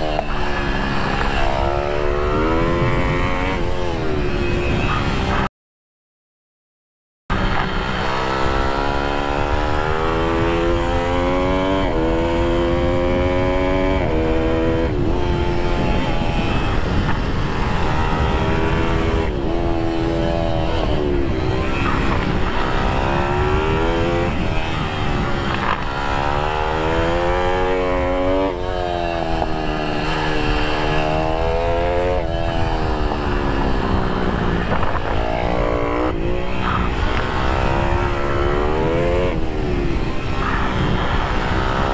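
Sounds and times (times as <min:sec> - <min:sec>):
motorbike engine revving hard: 0:00.0 - 0:05.5, 0:07.3 - 0:41.9.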